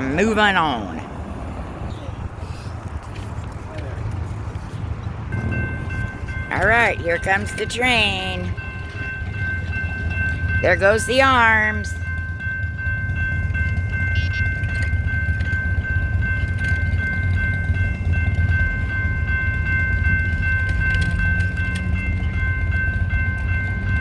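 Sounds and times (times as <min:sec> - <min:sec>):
crossing bell tones: 0:00.0 - 0:01.0, 0:05.3 - 0:24.0
train rumbling: 0:00.0 - 0:24.0.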